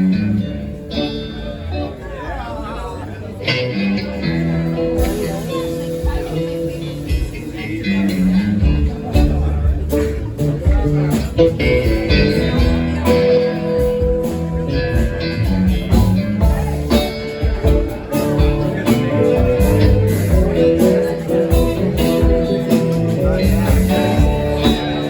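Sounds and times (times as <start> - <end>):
guitar-led instrumental music: 0.0 - 25.0.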